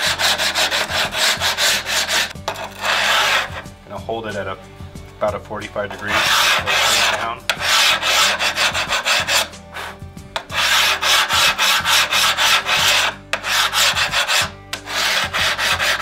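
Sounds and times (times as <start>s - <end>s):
hand file rasping on stone tile: 0.0s - 3.7s, 5.9s - 16.0s.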